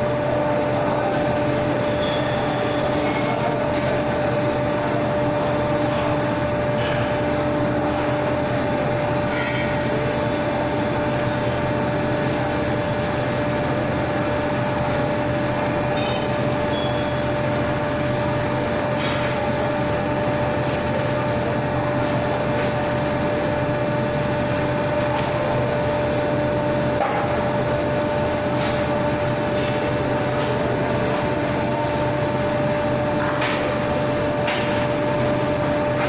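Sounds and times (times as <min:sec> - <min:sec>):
industrial machine whine: 0:00.0 - 0:36.0.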